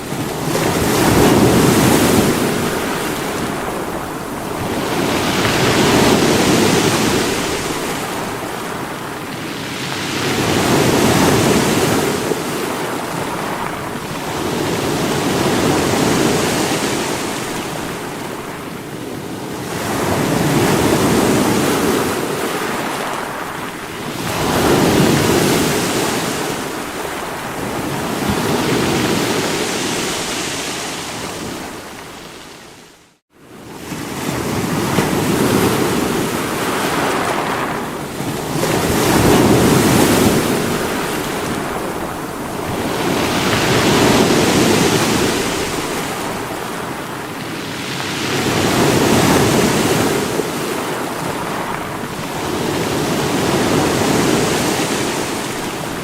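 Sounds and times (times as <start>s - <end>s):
sea waves breaking on rocks: 0.0s - 32.6s, 33.8s - 56.0s.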